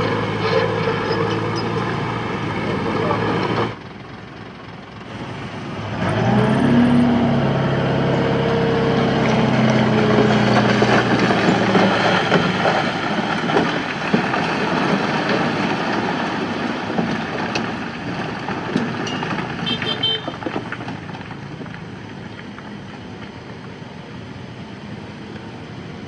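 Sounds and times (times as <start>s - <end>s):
rough rattling machinery noise: 0.0s - 23.8s
heavy diesel engine: 0.0s - 26.0s.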